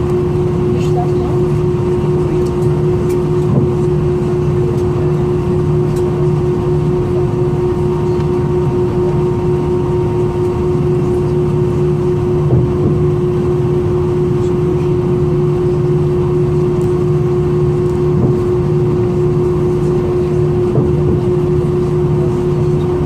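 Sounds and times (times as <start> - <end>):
airplane cabin hum: 0.0 - 23.0
jet engine whine: 0.0 - 23.0.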